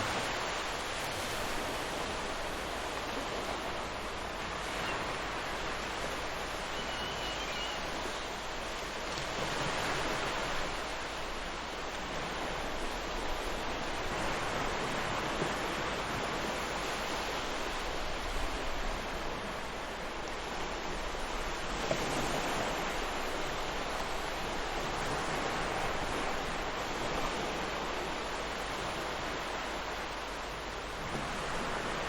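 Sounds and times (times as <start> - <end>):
ocean waves breaking on a beach: 0.0 - 32.0.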